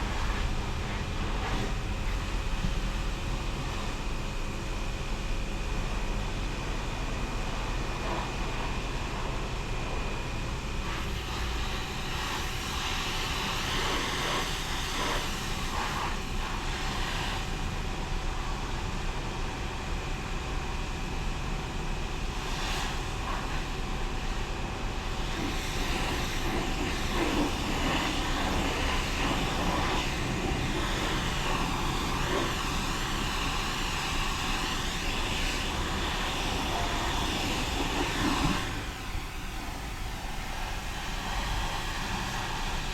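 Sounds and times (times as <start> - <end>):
car wash rushing noise: 0.0 - 42.9.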